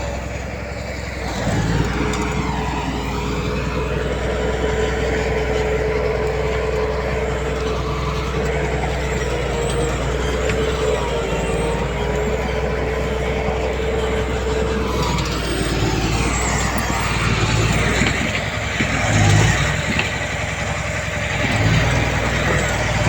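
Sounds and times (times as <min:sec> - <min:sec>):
heavy machinery diesel engine: 0:00.0 - 0:23.0
steady mechanical whine: 0:00.0 - 0:23.0.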